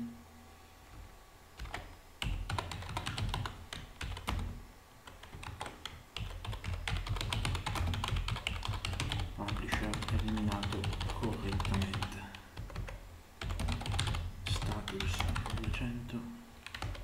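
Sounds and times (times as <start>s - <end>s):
computer keyboard typing: 1.6s - 15.9s, 16.6s - 17.0s.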